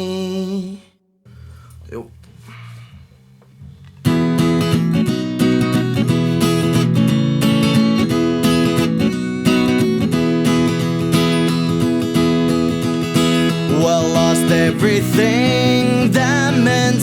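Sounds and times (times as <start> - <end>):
strummed acoustic guitar chords: 1.3 - 17.0.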